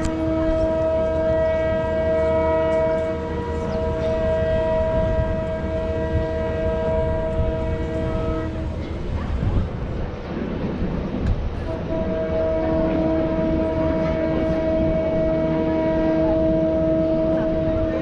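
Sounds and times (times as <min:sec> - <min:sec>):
steam locomotive whistle: 0:00.0 - 0:08.8, 0:11.7 - 0:18.0.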